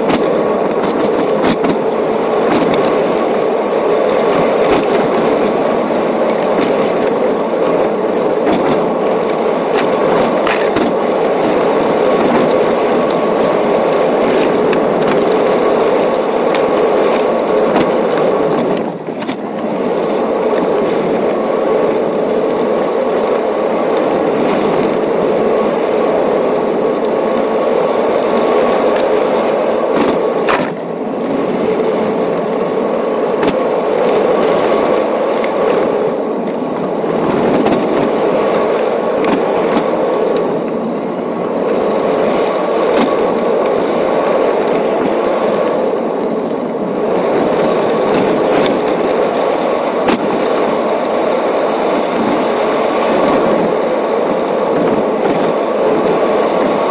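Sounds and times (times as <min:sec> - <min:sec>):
tyres rumbling on gravel: 0:00.0 - 0:56.9.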